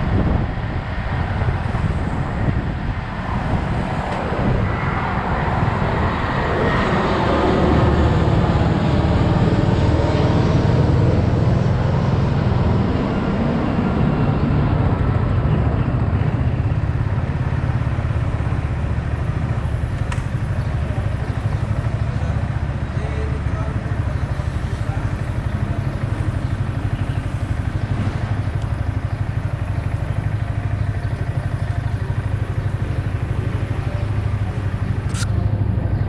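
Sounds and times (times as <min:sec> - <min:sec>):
motorcycle engine running: 0:00.0 - 0:36.0
traffic noise: 0:00.0 - 0:36.0.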